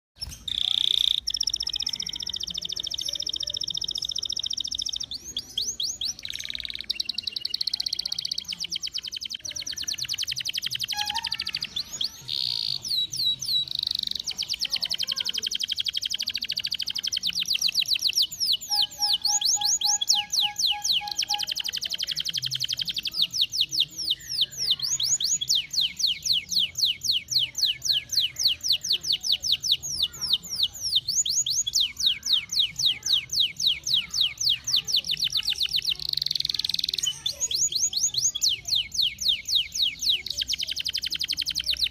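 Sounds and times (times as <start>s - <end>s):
canary singing trills: 0.2s - 41.9s.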